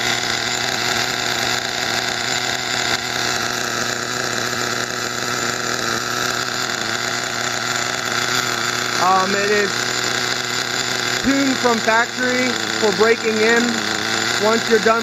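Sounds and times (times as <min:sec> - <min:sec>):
nitro engine idling: 0:00.0 - 0:15.0.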